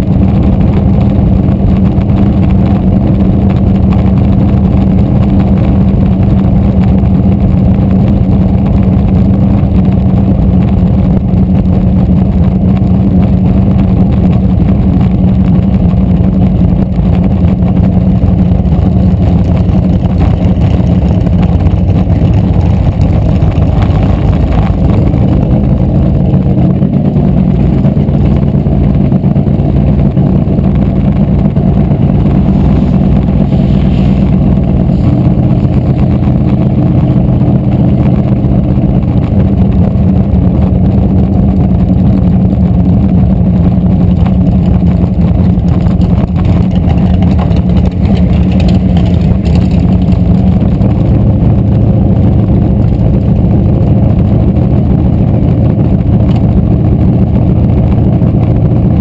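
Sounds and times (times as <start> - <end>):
race car engine droning: 0.0 - 59.0.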